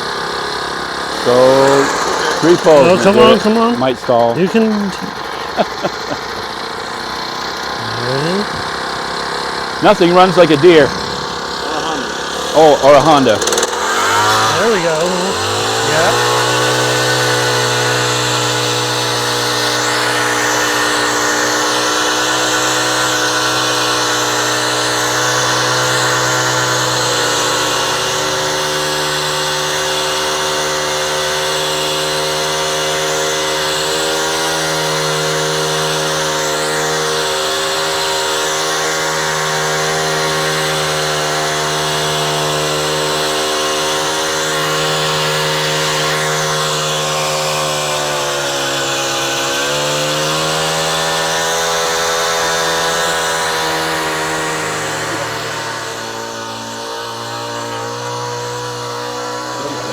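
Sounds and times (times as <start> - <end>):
small gas engine running: 0.0 - 59.9.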